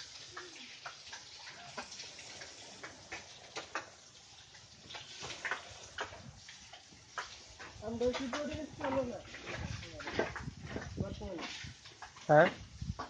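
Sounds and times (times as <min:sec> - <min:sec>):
cow drinking at water trough: 0:00.0 - 0:13.0.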